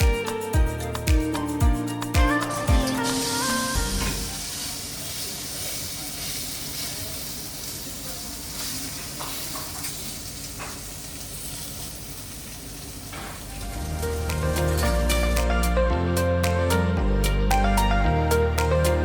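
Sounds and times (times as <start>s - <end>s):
food sizzling: 0.0s - 15.8s.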